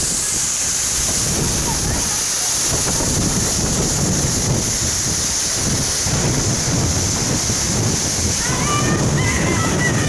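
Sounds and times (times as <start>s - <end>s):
waterfall rushing: 0.0s - 10.0s
wind on microphone: 0.0s - 10.0s.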